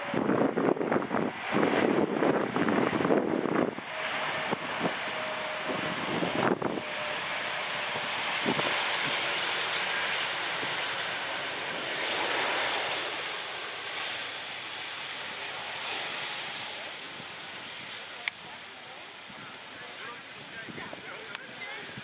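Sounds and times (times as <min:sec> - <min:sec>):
wind buffeting microphone: 0:00.0 - 0:18.6, 0:19.2 - 0:22.0
jet engine rushing: 0:00.0 - 0:22.0.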